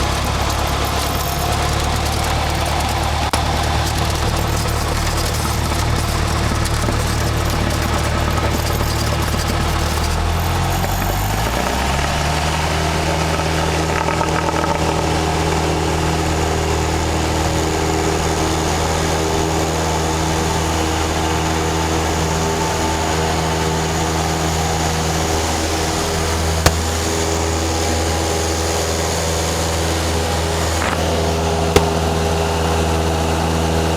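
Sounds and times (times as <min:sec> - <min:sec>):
small airplane piston engine: 0:00.0 - 0:33.9.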